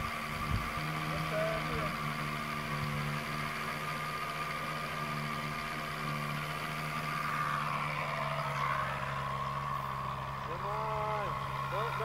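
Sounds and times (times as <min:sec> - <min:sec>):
model airplane engine idling: 0:00.0 - 0:12.0.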